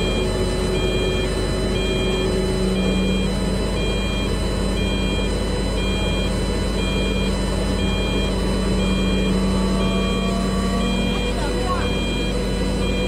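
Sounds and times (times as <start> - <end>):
truck engine running: 0.0 - 13.0
truck reversing alarm beeping: 0.0 - 13.0.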